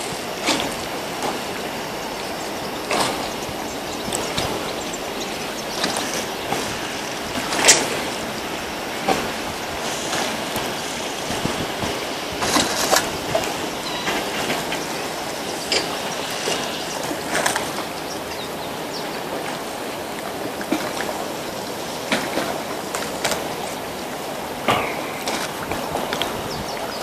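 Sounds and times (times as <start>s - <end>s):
hissing outdoor background noise: 0.0s - 27.0s.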